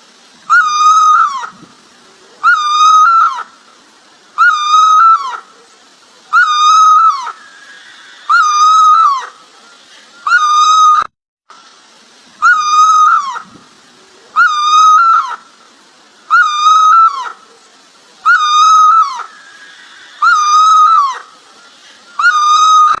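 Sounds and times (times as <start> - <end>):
bird calling: 0.5 - 11.1, 12.4 - 23.0.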